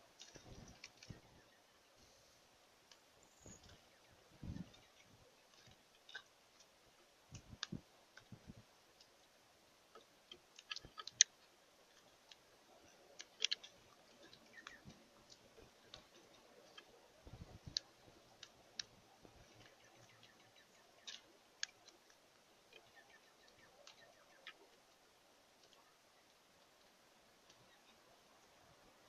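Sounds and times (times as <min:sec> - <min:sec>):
faint clicks and taps: 0:00.1 - 0:01.6, 0:02.8 - 0:29.0.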